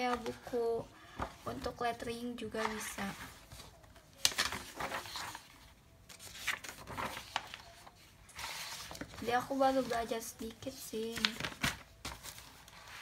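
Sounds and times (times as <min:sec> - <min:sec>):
paper rustling: 0:02.4 - 0:13.0.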